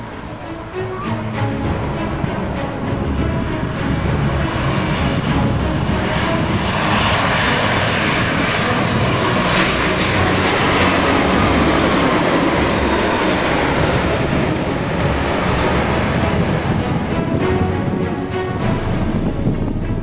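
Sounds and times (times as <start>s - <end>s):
jet engine whine: 0.0s - 20.0s
jet engines rushing: 0.0s - 20.0s.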